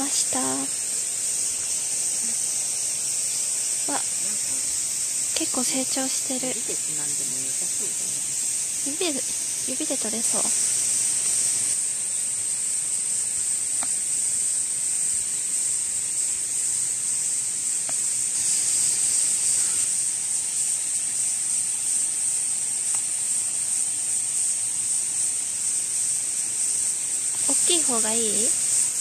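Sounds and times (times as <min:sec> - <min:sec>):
cicadas droning: 0:00.0 - 0:29.0.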